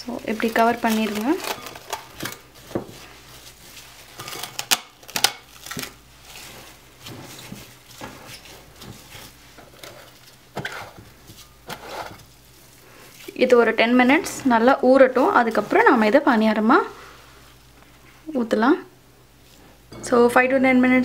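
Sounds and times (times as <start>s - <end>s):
plastic cling wrap crinkling: 0.0s - 17.0s.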